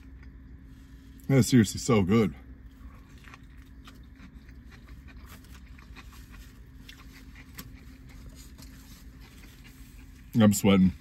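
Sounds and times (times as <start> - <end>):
person chewing food: 0.0 - 1.1, 2.5 - 10.4
low hum inside a car: 0.0 - 11.0.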